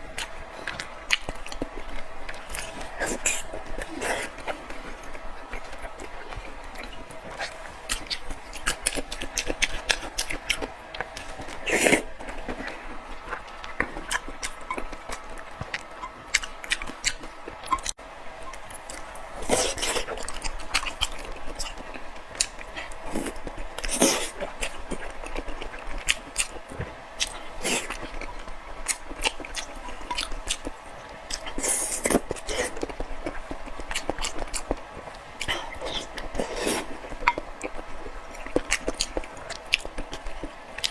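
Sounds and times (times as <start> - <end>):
chewing with wet mouth clicks: 0.0 - 40.9.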